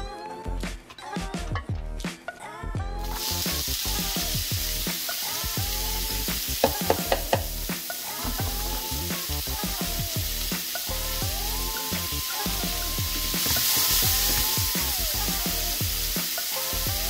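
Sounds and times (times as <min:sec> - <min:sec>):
background music: 0:00.0 - 0:17.0
onion sizzling in oil: 0:03.0 - 0:17.0.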